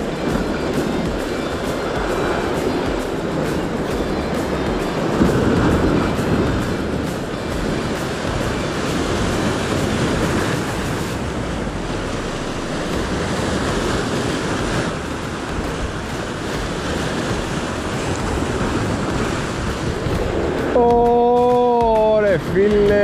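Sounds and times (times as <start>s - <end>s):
waves breaking: 0.0s - 23.0s
wind on microphone: 0.0s - 23.0s.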